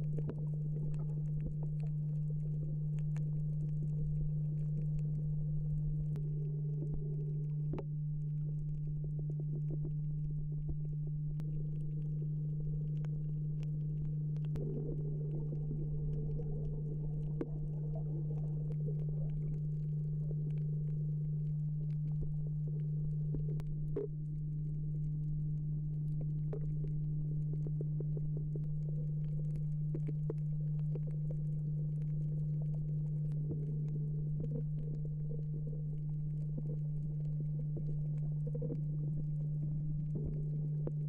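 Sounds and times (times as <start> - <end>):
faint clicks and crackles: 0.0 - 41.0
underwater low hum: 0.0 - 41.0.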